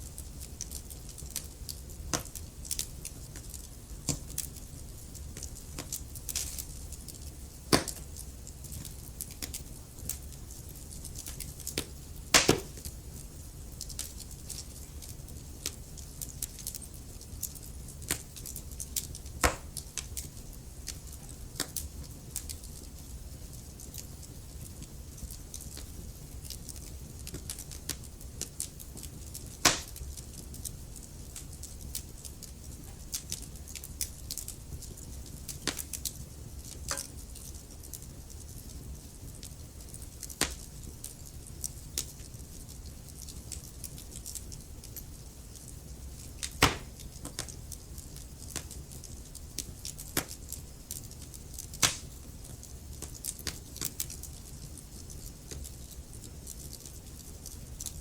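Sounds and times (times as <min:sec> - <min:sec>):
low fire rumble: 0:00.0 - 0:58.0
wood fire pops and snaps: 0:00.0 - 0:58.0.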